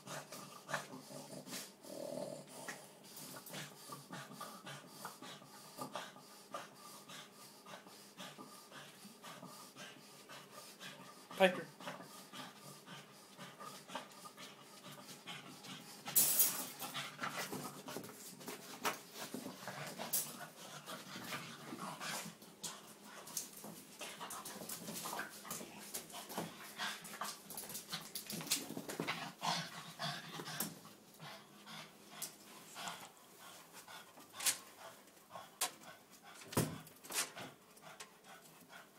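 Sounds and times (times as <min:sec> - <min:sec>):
dog panting and whimpering: 0:02.9 - 0:38.9.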